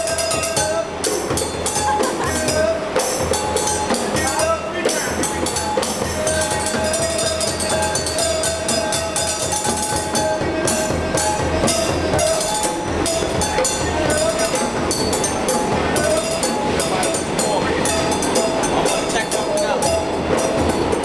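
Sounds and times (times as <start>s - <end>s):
djembe hand drumming: 0.0s - 21.0s
stick striking metal bowls: 0.0s - 21.0s
subway train whine: 0.0s - 21.0s.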